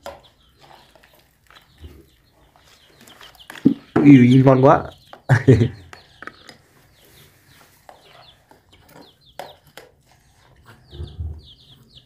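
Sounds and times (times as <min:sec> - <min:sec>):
chickens peeping: 0:00.0 - 0:12.0.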